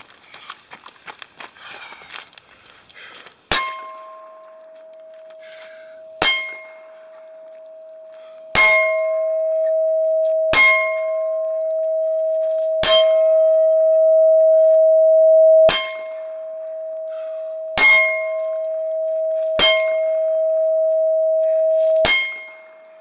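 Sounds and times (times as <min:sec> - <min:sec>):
steel target plate ringing: 0:03.5 - 0:23.0.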